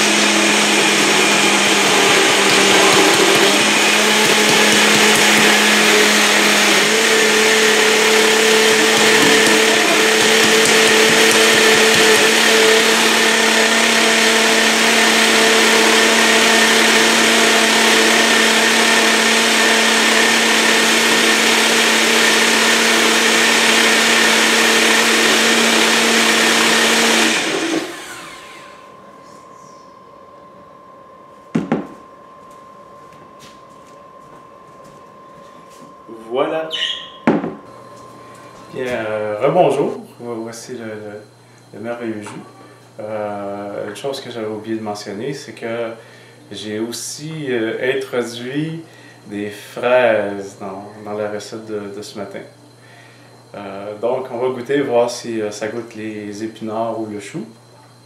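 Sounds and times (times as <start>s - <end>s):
blender motor whine: 0.0s - 43.9s, 48.5s - 55.0s.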